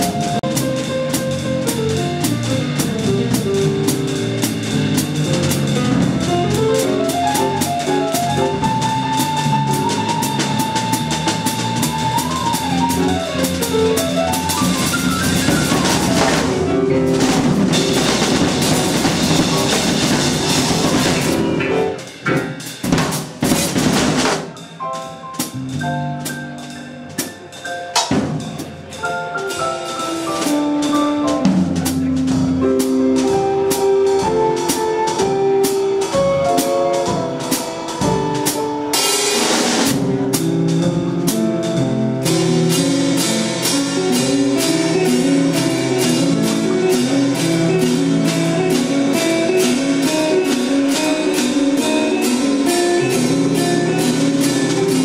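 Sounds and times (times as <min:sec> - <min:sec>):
drum kit playing: 0:00.0 - 0:55.0.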